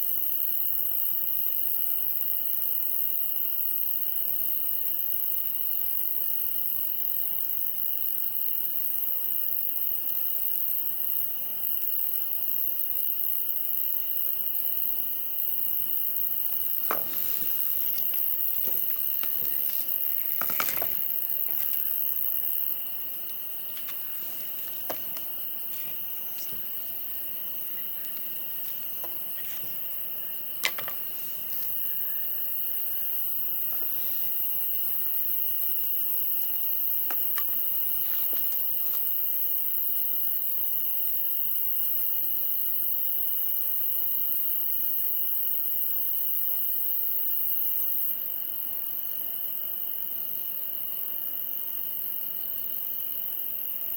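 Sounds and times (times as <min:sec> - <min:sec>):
insect trill: 0:00.0 - 0:53.9.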